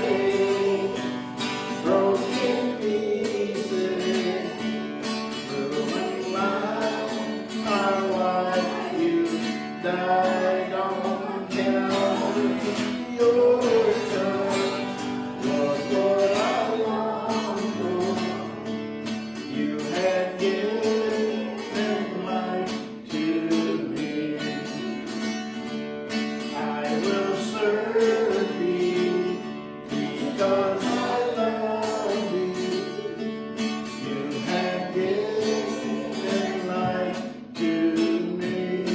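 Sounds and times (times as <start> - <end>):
person singing worship song: 0.0 - 25.1, 26.5 - 38.9
strummed acoustic guitar: 0.0 - 38.9.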